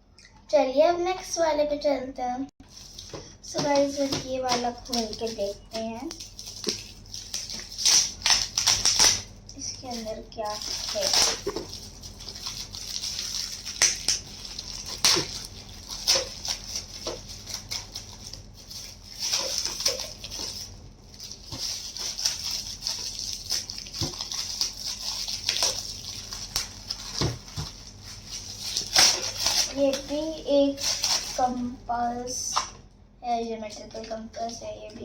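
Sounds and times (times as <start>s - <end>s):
gift wrapping tearing and crinkling: 2.6s - 31.8s.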